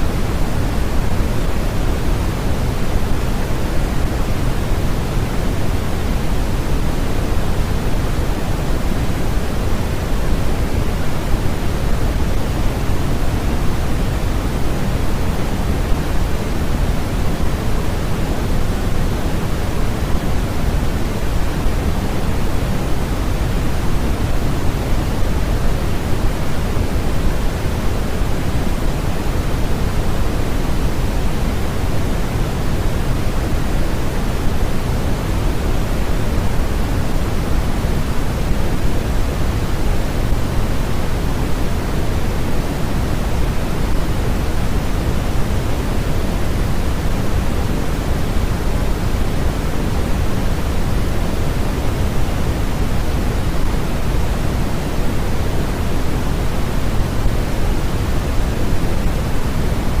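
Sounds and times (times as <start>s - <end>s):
steady pink noise hiss: 0.0s - 60.0s.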